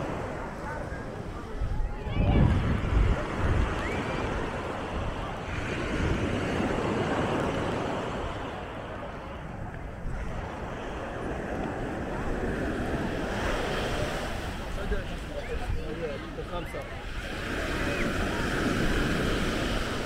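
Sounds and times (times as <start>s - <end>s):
small waves washing up shore: 0.0s - 20.0s
wind rumbling on microphone: 0.0s - 20.0s.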